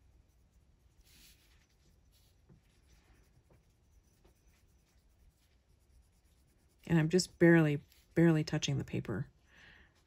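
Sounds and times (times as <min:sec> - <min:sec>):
colored pencil scratching on paper: 0:00.0 - 0:08.8.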